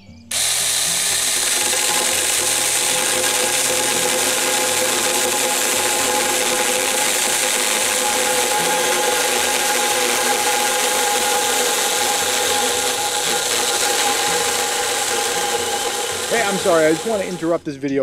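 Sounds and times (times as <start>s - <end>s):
electric chainsaw cutting wood: 0.3s - 17.5s.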